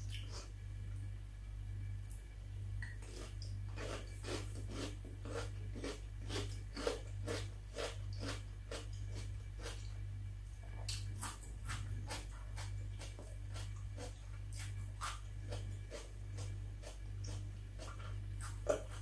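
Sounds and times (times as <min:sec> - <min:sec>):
chewing crunchy pepper: 0:02.8 - 0:10.0, 0:10.7 - 0:19.0.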